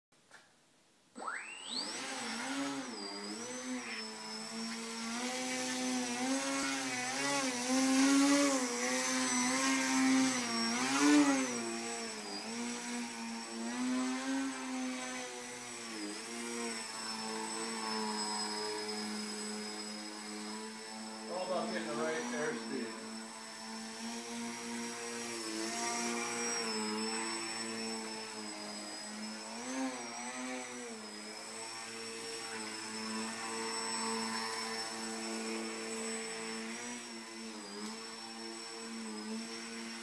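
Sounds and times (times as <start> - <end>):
electric motor and propeller whining: 1.2 - 40.0.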